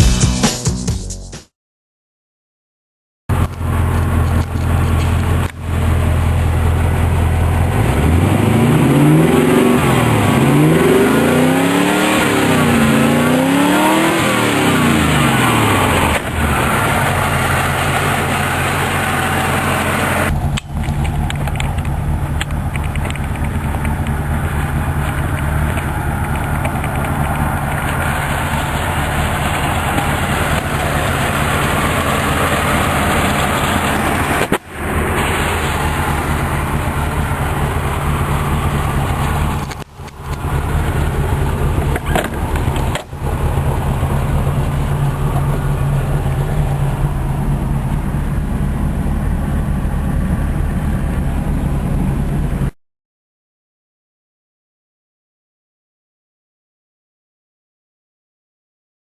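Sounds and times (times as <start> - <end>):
engine idling and revving: 3.3 - 52.8.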